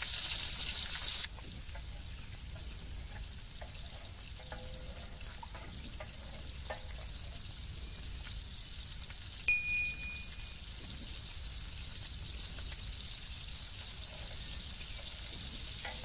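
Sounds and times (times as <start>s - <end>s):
wood fire hissing: 0.0s - 16.0s
faint ticks and crackles: 0.4s - 16.0s.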